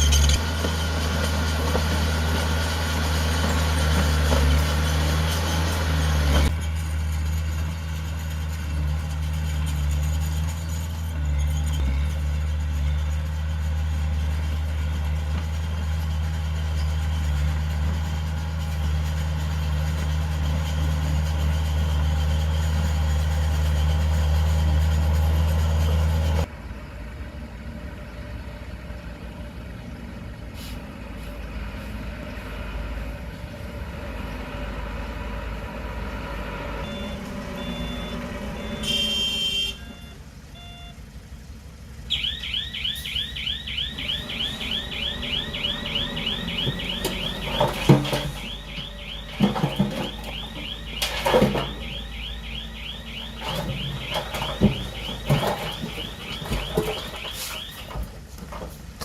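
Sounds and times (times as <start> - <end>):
diesel machinery engine hum: 0.0 - 59.0
distant engine noise: 0.0 - 59.0.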